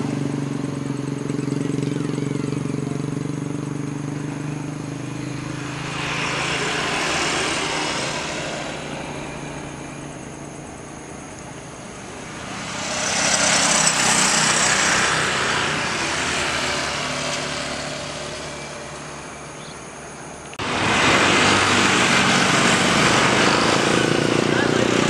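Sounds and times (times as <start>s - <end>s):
jet airliner engines passing: 3.0s - 19.7s, 20.3s - 25.0s
jet airliner engines on takeoff roll: 4.2s - 19.6s, 20.3s - 25.0s.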